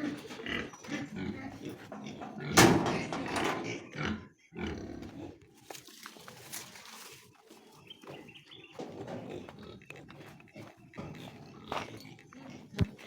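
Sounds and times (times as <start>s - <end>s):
pigs grunting and squealing: 0.0s - 6.5s, 7.3s - 13.0s.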